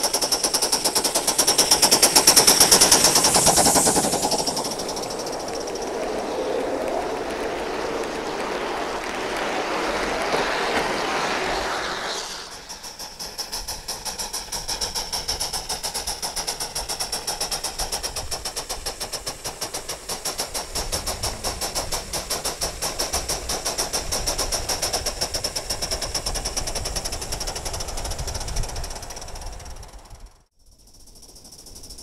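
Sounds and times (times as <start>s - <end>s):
high hiss of steam: 0.0s - 30.1s
steam locomotive chuffing: 0.0s - 30.4s.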